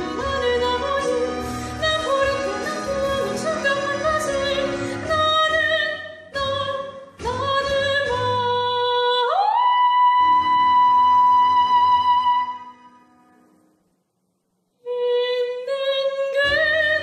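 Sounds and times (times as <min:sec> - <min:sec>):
woman singing opera: 0:00.0 - 0:12.8, 0:14.8 - 0:17.0.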